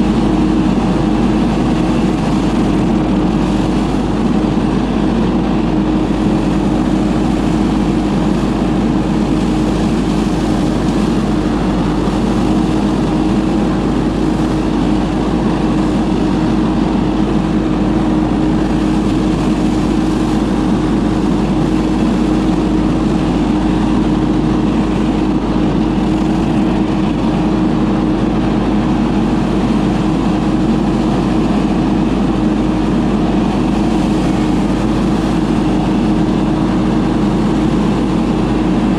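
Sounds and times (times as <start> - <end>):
blower engine running: 0.0 - 38.9.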